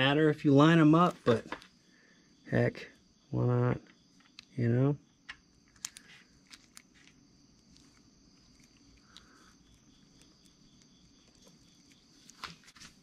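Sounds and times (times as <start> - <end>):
faint workshop hum: 0.0 - 13.0.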